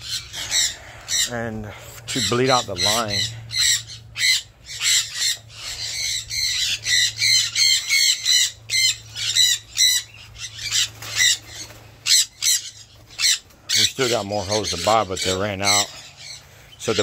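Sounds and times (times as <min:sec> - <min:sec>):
parrots squawking: 0:00.0 - 0:17.0.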